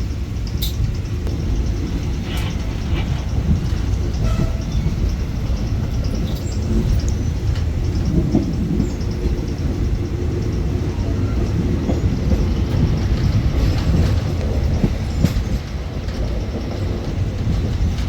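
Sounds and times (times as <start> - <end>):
train low rumble: 0.0 - 18.0
faint rattles and clicks: 0.3 - 18.0.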